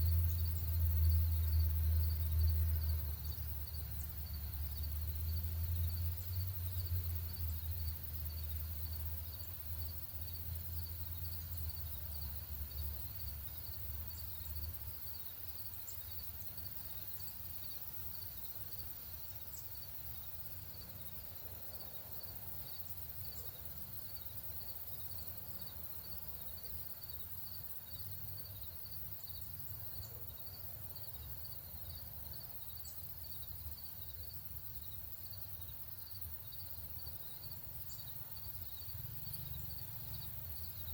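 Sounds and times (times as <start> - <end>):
insect chirping: 0.0 - 40.9
outdoor ambience: 0.0 - 40.9.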